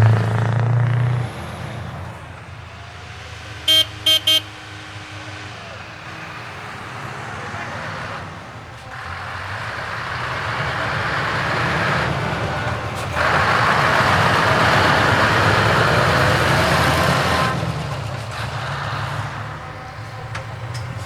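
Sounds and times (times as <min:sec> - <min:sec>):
truck engine passing: 0:00.0 - 0:21.0.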